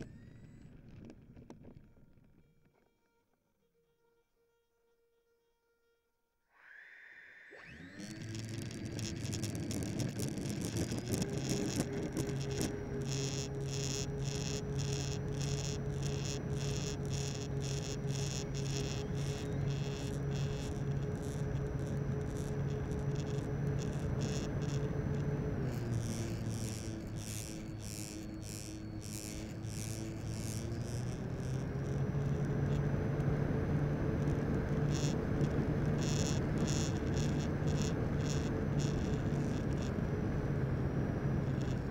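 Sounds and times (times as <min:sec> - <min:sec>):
electric motor and propeller whine: 0:00.0 - 0:02.8, 0:06.5 - 0:41.9.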